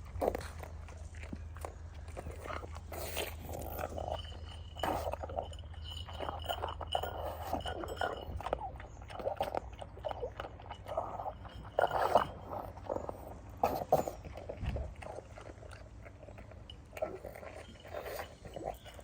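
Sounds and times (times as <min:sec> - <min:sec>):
dog crunching dry kibble: 0:00.0 - 0:19.0.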